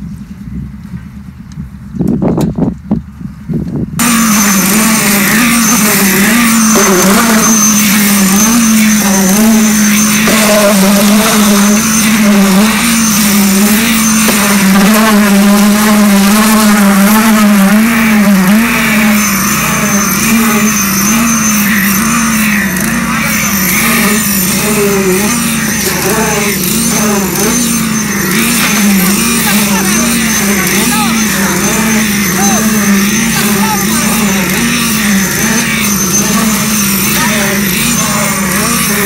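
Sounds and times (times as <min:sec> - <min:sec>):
small petrol engine running: 0:03.8 - 0:39.0.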